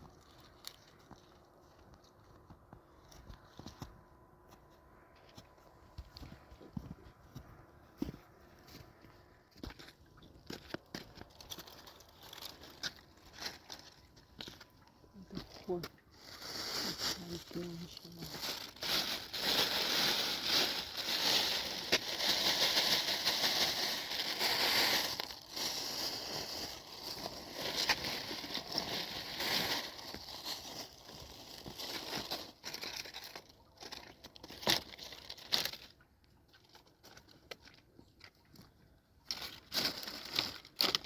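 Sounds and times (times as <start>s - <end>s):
rustling and crinkling: 0.0s - 41.0s.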